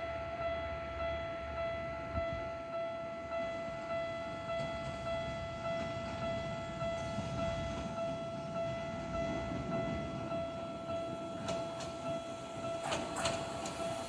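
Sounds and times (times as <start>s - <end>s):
approaching train rumble: 0.0s - 14.0s
railway warning alarm chiming: 0.0s - 14.0s.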